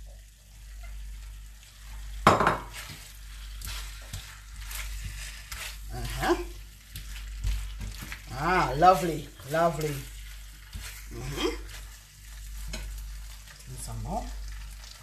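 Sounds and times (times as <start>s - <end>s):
food sizzling: 0.0s - 15.0s
spatula scraping skillet: 0.1s - 15.0s.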